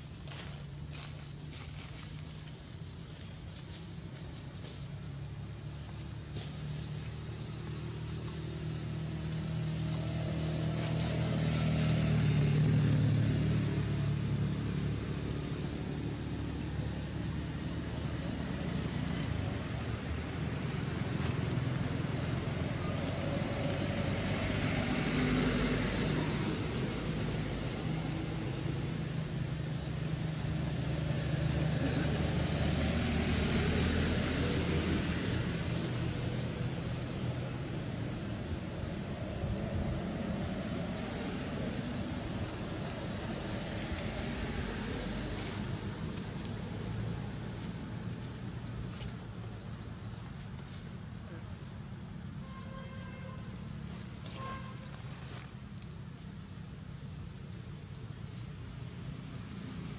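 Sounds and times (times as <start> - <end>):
vehicle engine passing: 0.0 - 59.9.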